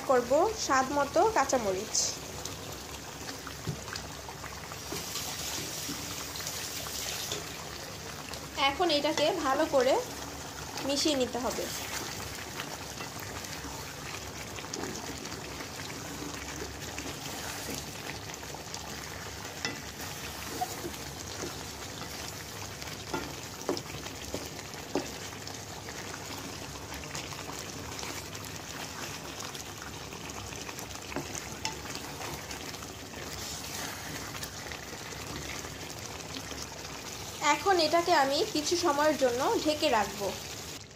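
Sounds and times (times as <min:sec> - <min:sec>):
gravy bubbling in a pot: 0:00.0 - 0:40.9.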